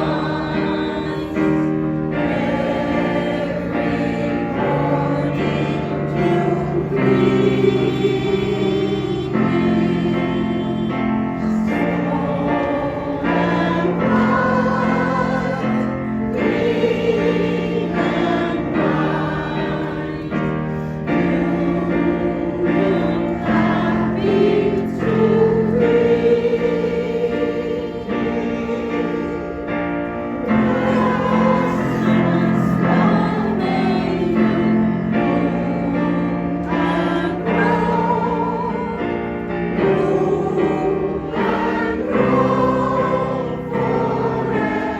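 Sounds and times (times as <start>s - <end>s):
choir singing in parts: 0.0s - 44.9s.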